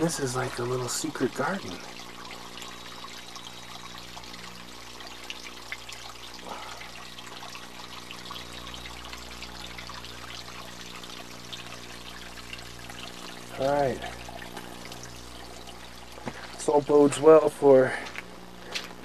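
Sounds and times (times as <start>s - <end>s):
water trickling over rocks: 0.0s - 19.0s.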